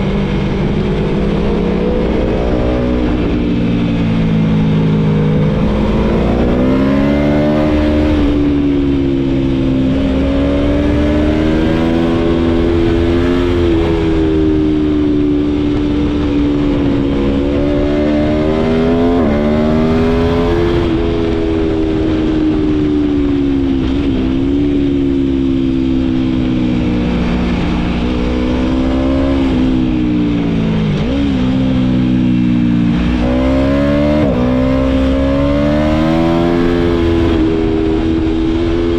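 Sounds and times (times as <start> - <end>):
low wind rush: 0.0 - 38.9
motorcycle engine under way: 0.0 - 38.9.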